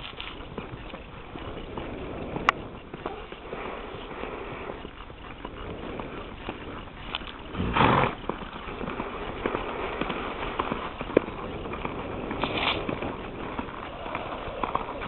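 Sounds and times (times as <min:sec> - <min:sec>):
horse hoofbeats on sandy dirt: 0:00.0 - 0:15.0.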